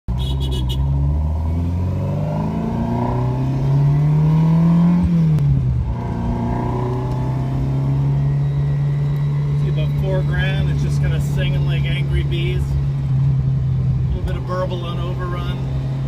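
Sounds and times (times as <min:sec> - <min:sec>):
car engine from inside cabin: 0:00.2 - 0:16.0.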